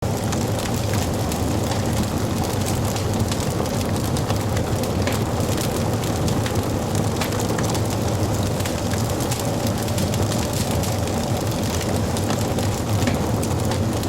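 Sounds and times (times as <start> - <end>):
fire flames rushing: 0.0 - 14.0
wood fire crackling and popping: 0.0 - 14.0.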